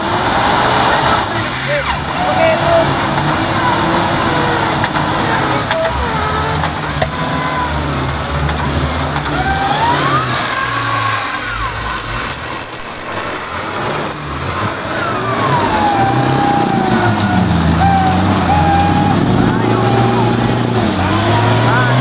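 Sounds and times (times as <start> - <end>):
engine revving under load: 0.0 - 22.0
tyres spinning in mud: 0.0 - 22.0.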